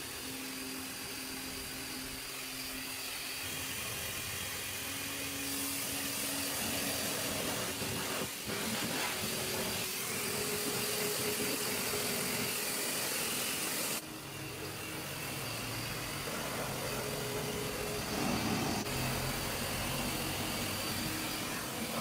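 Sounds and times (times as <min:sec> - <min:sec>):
steady mechanical noise: 0:00.0 - 0:22.0.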